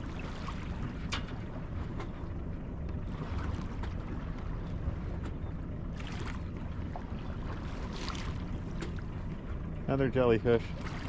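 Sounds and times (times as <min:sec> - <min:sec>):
boat rumbling: 0:00.0 - 0:11.0.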